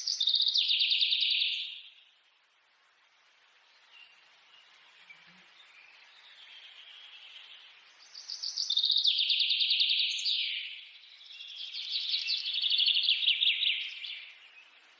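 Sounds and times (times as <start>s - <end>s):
songbirds twittering: 0.0s - 14.9s.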